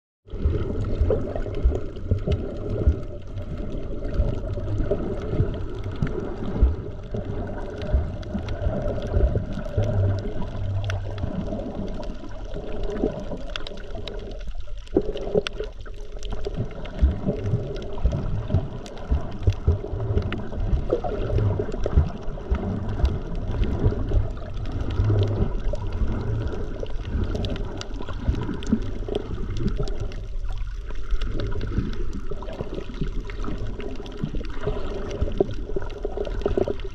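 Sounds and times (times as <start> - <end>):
underwater rush and gurgle: 0.2 - 36.9.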